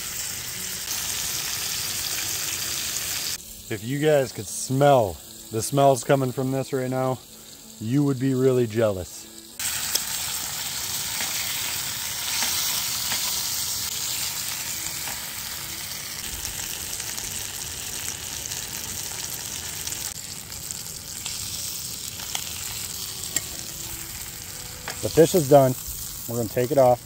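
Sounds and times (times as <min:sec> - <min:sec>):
fish sizzling in butter: 0:00.0 - 0:27.0.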